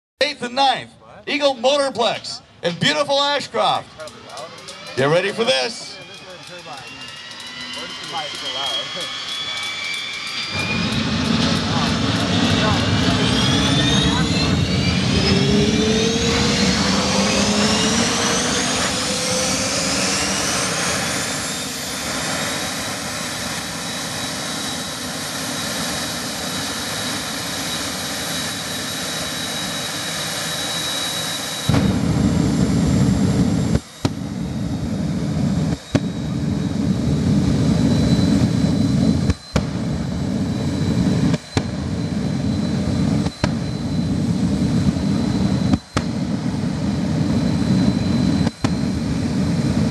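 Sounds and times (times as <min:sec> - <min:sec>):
turbine engine whine: 0:00.2 - 0:49.9
afterburner low rumble: 0:01.2 - 0:49.9.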